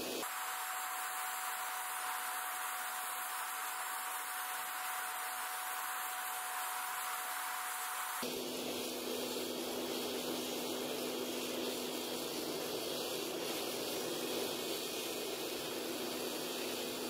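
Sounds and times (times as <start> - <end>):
forge burner hissing: 0.0 - 17.0.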